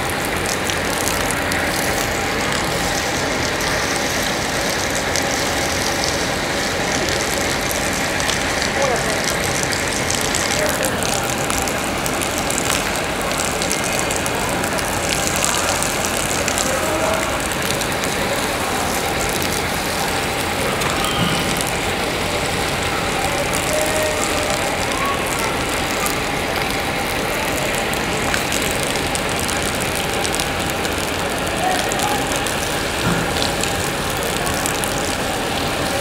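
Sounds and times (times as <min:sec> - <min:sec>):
water jet splashing on concrete: 0:00.0 - 0:36.0.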